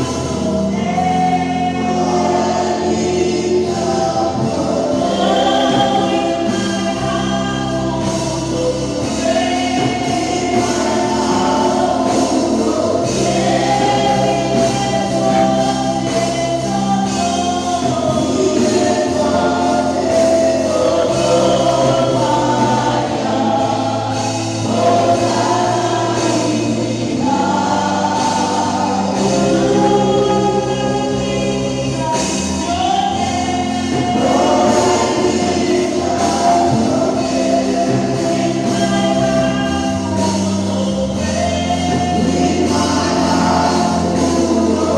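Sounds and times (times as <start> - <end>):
choir singing gospel: 0.0 - 44.9
steady bass notes: 0.0 - 44.9.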